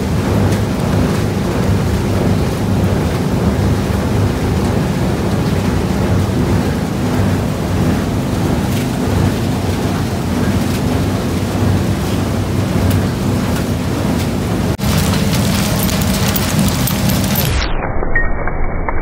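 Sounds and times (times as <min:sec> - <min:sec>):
machinery and conveyor belts rumbling: 0:00.0 - 0:17.8.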